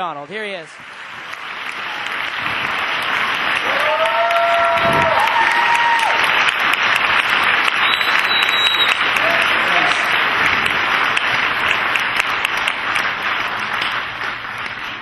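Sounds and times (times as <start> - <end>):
audience applauding: 0.4 - 15.0.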